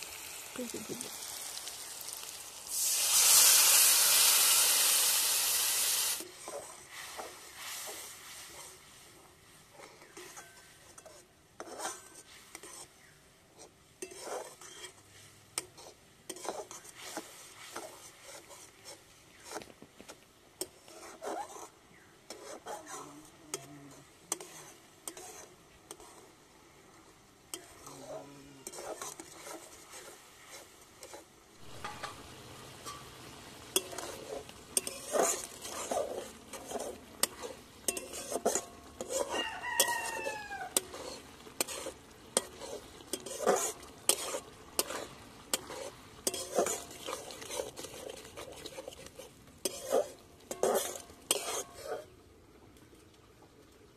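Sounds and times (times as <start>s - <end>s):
cooking pan sizzling: 0.0s - 53.9s
ladle scraping a steel wok: 1.2s - 8.8s, 9.7s - 19.7s, 20.6s - 26.4s, 27.5s - 52.1s.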